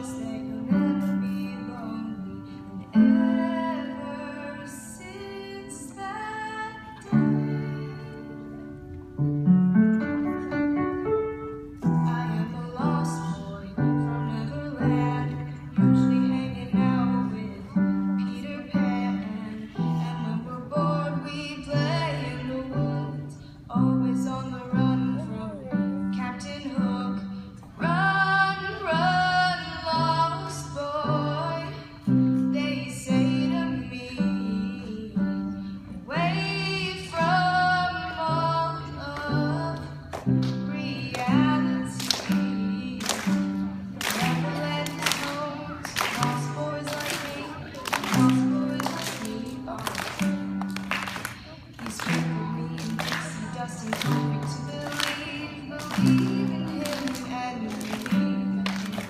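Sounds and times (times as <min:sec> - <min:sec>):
woman singing slow song: 0:00.0 - 0:09.0, 0:11.8 - 0:59.0.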